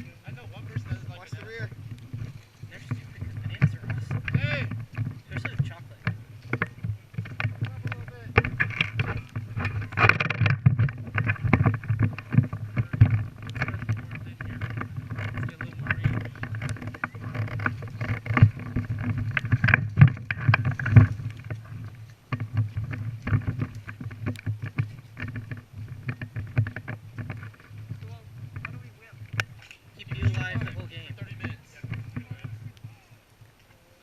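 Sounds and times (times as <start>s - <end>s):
clothing and gear rustling: 0.0s - 34.0s.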